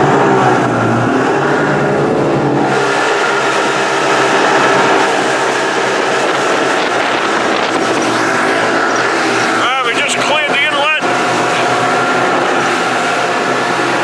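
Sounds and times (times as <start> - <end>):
boat engine running: 0.0 - 14.0
steady rushing noise: 0.0 - 14.0.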